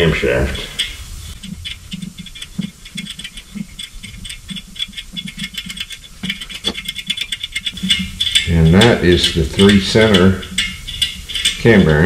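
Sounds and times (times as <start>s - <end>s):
hand tap ticking and clicking: 0.8s - 11.7s.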